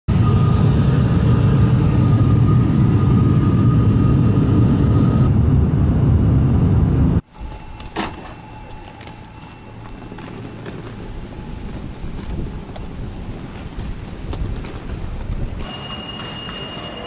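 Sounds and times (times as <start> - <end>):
aircraft cabin engine noise: 0.1 - 17.0
constant high whine: 0.1 - 17.0.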